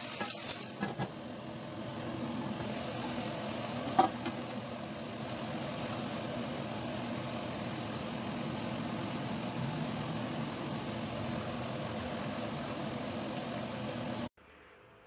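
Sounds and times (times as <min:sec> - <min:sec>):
food stir-frying in a wok: 0:00.0 - 0:14.3
stove low hum: 0:00.0 - 0:14.3.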